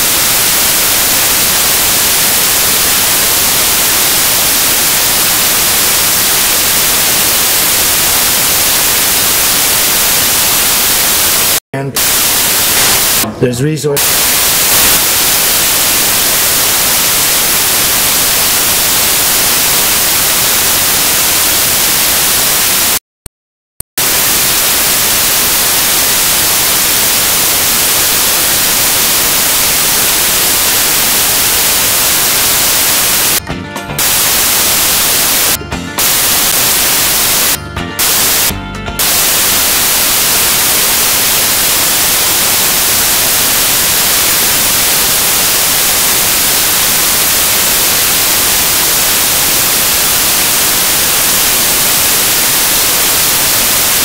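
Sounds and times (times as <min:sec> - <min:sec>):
static hiss: 0:00.0 - 0:13.3, 0:14.0 - 0:23.0, 0:24.0 - 0:54.0.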